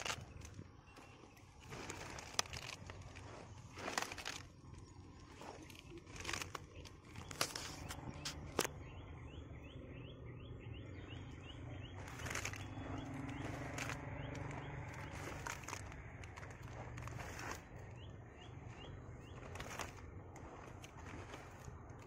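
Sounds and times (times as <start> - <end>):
rustles: 0.0 - 8.8, 11.2 - 22.0
low steady hum: 0.0 - 22.0.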